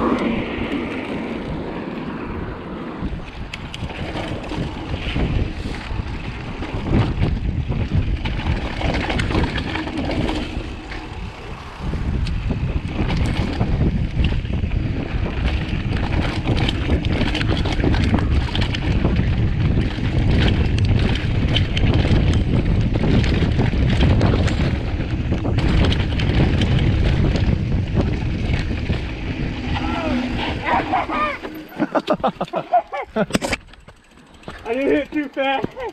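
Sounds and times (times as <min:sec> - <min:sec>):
bike clicks and rattles: 0:00.0 - 0:02.3, 0:03.0 - 0:35.9
tyres rumbling on dirt: 0:00.0 - 0:35.9
wind buffeting microphone: 0:00.0 - 0:35.9.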